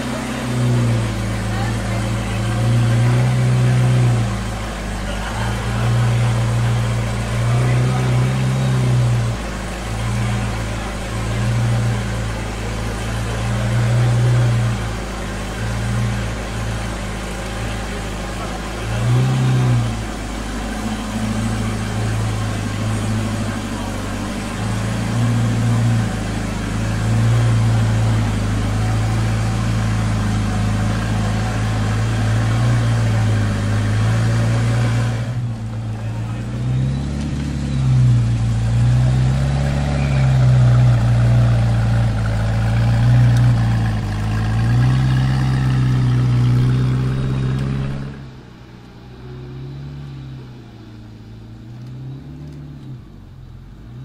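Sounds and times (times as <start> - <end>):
car engine idling: 0.0 - 54.0
engine throttle blips: 0.0 - 54.0.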